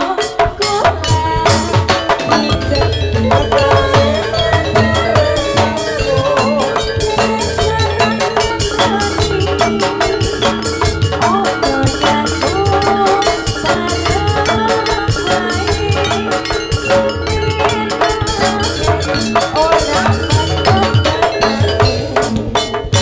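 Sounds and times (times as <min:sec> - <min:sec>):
gamelan music over loudspeakers: 0:00.0 - 0:23.0.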